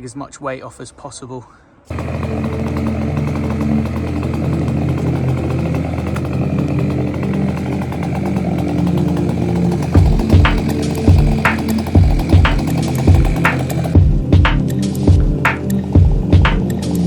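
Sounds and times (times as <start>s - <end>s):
small engine running: 1.9s - 17.0s.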